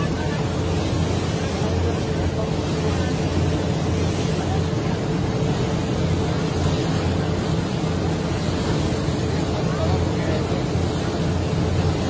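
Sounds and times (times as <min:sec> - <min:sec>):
boat engine droning: 0:00.0 - 0:12.0
water rushing: 0:00.0 - 0:12.0.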